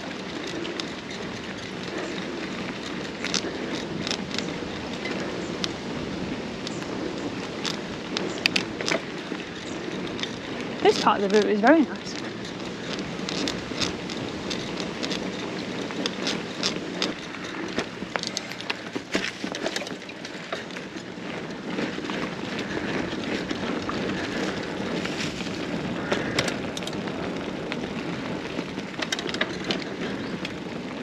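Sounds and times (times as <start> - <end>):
bike clicking and rattling: 0.0 - 31.0
bike tyres rolling on trail: 0.0 - 31.0.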